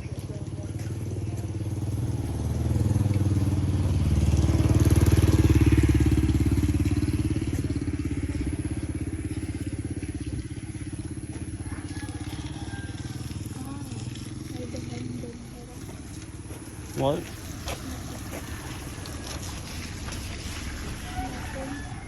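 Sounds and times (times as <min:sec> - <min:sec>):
motorcycle engine passing: 0:00.0 - 0:22.0.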